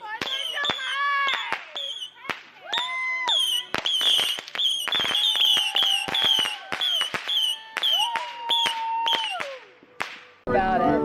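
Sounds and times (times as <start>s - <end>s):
fireworks crackling bangs: 0.0s - 10.5s
firework whistles falling in pitch: 0.2s - 9.6s.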